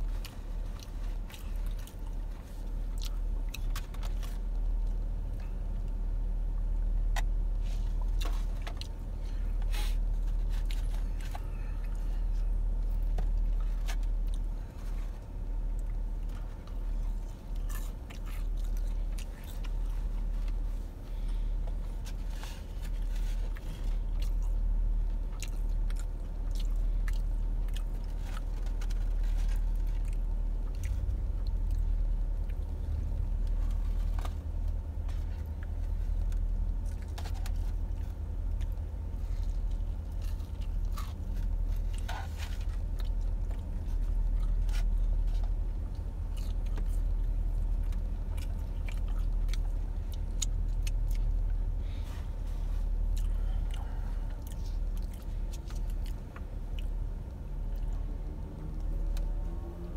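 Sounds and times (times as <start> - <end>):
chewing crispy chicken: 0.0 - 6.0, 7.2 - 20.7, 22.0 - 52.0, 52.6 - 59.9
low hum inside car: 0.0 - 59.9.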